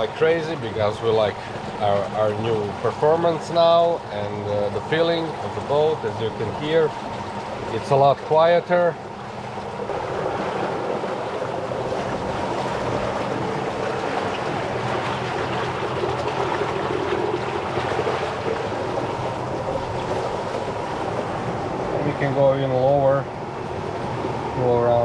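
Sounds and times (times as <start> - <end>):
water splashing along hull: 0.0 - 25.0.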